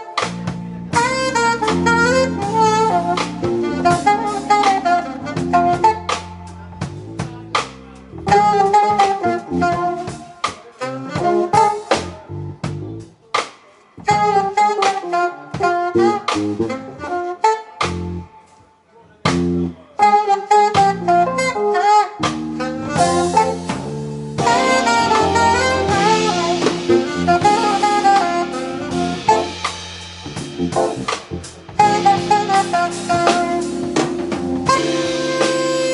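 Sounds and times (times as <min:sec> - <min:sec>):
saxophone melody: 0:00.0 - 0:07.6, 0:08.2 - 0:12.6, 0:14.0 - 0:18.5, 0:19.4 - 0:35.9
electric bass: 0:00.0 - 0:13.2, 0:14.0 - 0:14.6, 0:15.8 - 0:17.1, 0:17.8 - 0:18.4, 0:19.3 - 0:19.8, 0:20.8 - 0:35.9
drum kit beat: 0:00.0 - 0:18.6, 0:19.3 - 0:35.9
keyboards: 0:00.0 - 0:35.9.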